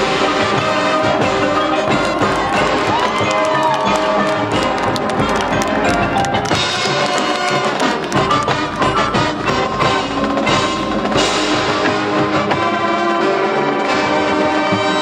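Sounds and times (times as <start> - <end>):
mallet percussion: 0.0 - 13.2
brass: 0.0 - 15.0
drums: 0.0 - 15.0.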